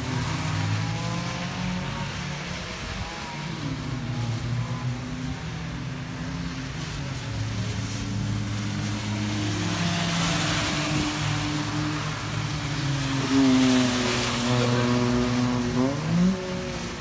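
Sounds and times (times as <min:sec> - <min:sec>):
small race car engines: 0:00.0 - 0:17.0.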